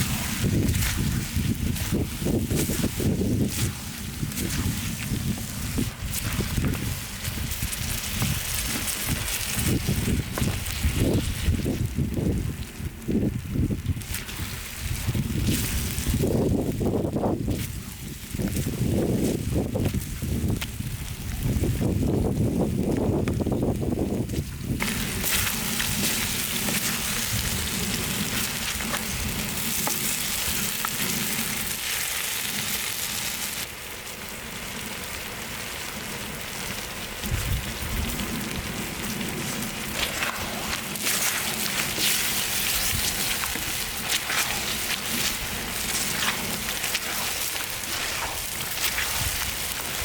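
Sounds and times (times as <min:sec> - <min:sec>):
food sizzling in hot pan: 0:00.0 - 0:21.8, 0:23.3 - 0:50.0.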